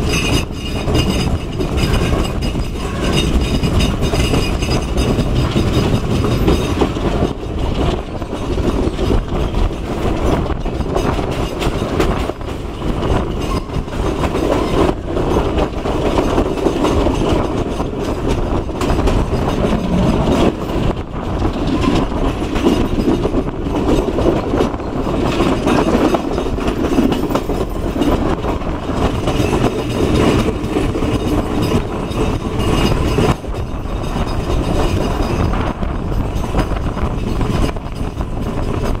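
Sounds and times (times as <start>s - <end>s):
train clattering over track: 0.0s - 39.0s
train wheels rumbling on rails: 0.0s - 39.0s.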